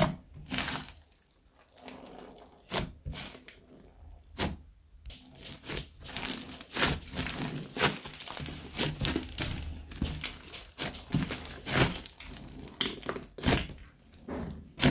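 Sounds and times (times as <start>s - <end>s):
hands squishing slime: 0.0s - 14.9s.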